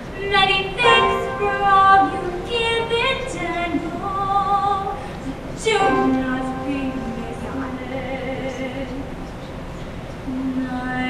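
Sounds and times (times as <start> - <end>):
woman singing: 0.2 - 9.1, 10.3 - 11.0.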